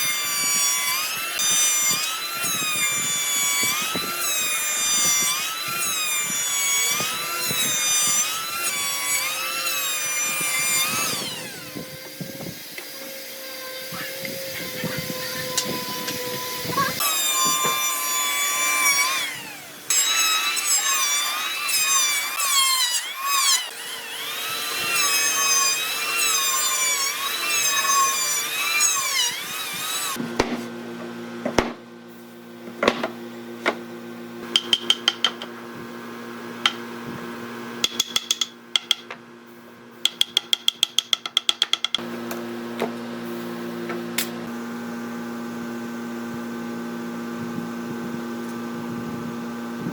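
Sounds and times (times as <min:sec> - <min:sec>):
power tool running: 0:00.0 - 0:40.4, 0:42.0 - 0:49.9.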